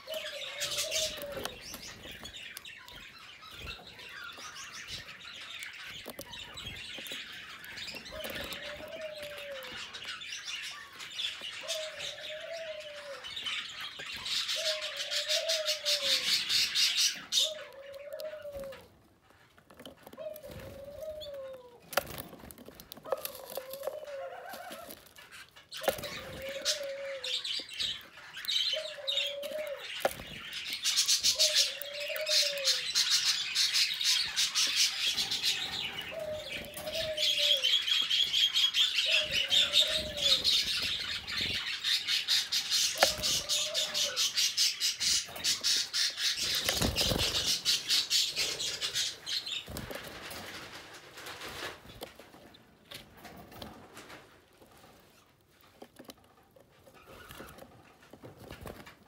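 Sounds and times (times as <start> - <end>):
canaries trilling: 0.0 - 59.0.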